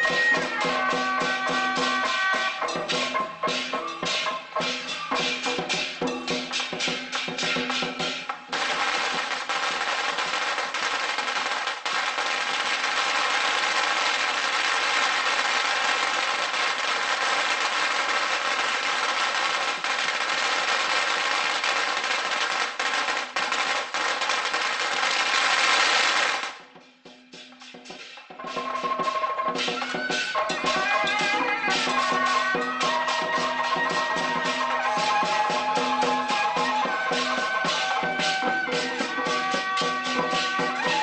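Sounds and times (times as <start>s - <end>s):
firecrackers crackling: 0.0s - 26.8s, 27.8s - 41.0s
procession drums: 0.0s - 26.8s, 27.8s - 41.0s.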